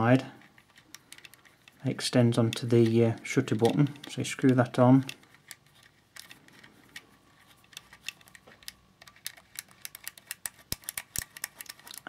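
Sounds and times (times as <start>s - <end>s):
small metal clicks and ticks: 0.3s - 7.0s, 7.6s - 12.0s.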